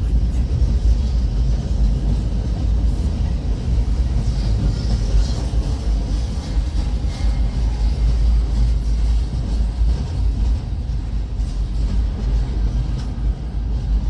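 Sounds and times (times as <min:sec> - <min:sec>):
freight train cars rolling past: 0:00.0 - 0:14.0.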